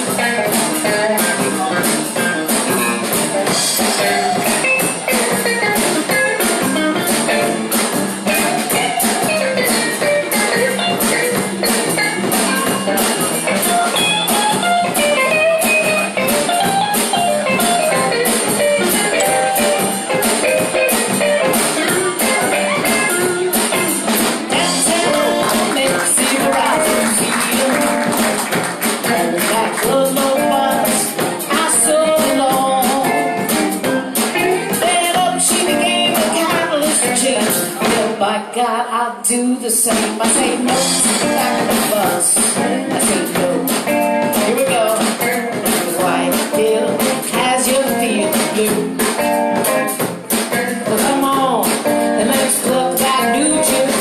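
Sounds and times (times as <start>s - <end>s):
steady drum beat: 0.0s - 38.2s, 39.9s - 54.0s
bass: 0.0s - 54.0s
blues guitar lead: 0.0s - 54.0s.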